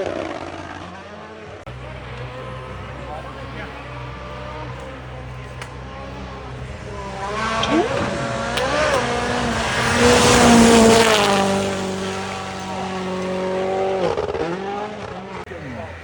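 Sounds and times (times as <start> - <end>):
rally car engine at full throttle: 0.0 - 16.0.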